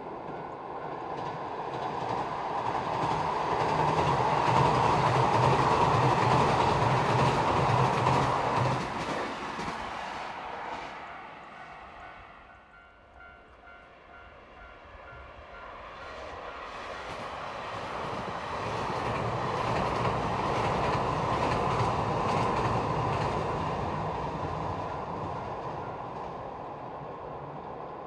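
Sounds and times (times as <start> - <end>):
train crossing steel bridge: 0.0 - 28.0.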